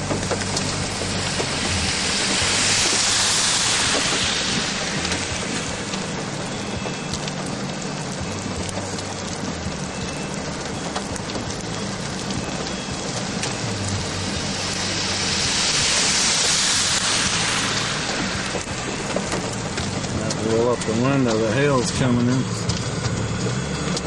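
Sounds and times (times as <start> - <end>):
heavy rain pouring: 0.0 - 24.0
raindrop ticks: 0.0 - 24.0.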